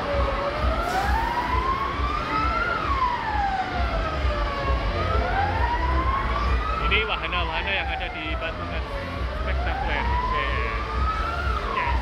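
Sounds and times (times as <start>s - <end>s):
wailing siren: 0.0s - 12.0s.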